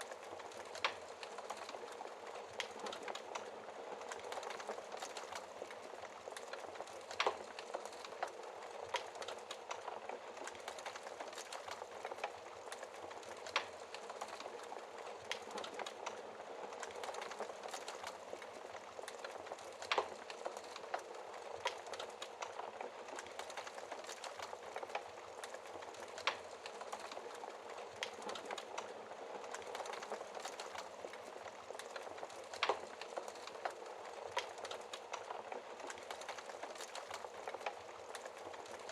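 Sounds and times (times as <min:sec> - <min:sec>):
fire popping: 0:00.0 - 0:38.9
wood fire crackling: 0:00.0 - 0:38.9.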